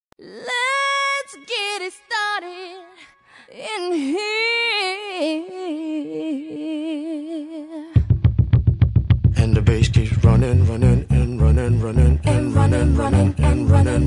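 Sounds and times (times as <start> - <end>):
solo high voice singing: 0.2 - 8.0, 9.4 - 14.0.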